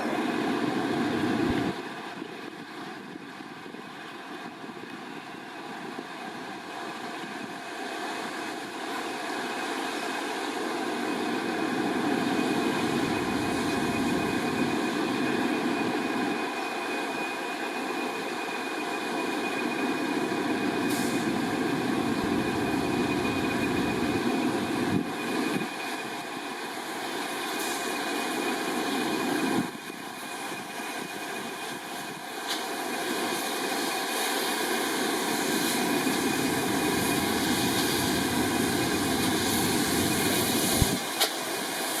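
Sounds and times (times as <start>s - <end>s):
diesel locomotive engine running: 0.0s - 42.0s.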